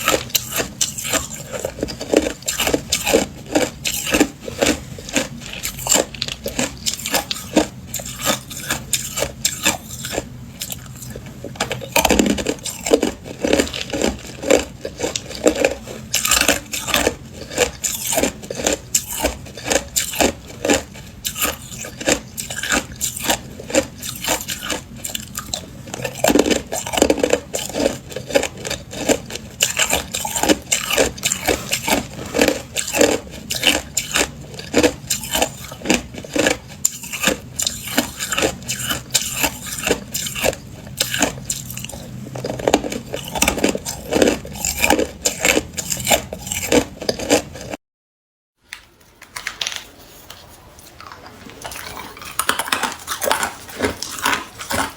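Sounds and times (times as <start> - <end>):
person chewing ice: 0.0 - 47.8, 49.3 - 54.9.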